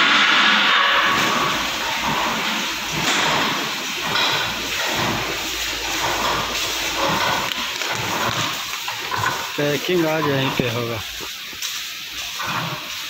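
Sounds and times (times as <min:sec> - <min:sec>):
industrial hiss: 0:00.0 - 0:13.0.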